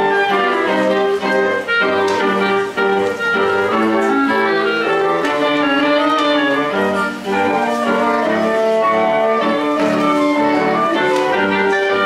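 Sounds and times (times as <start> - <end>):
woodwind ensemble with piano: 0.0 - 12.0.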